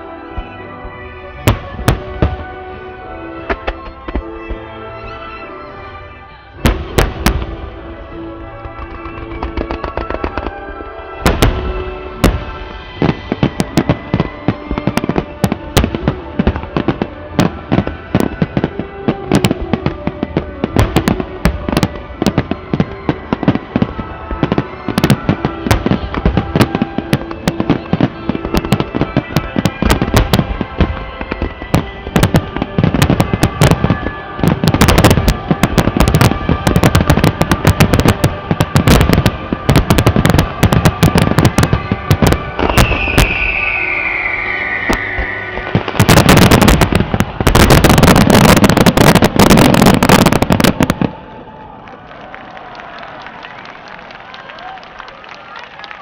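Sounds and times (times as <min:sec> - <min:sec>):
fireworks bursts and bangs: 0:00.2 - 0:04.7, 0:06.6 - 0:56.0.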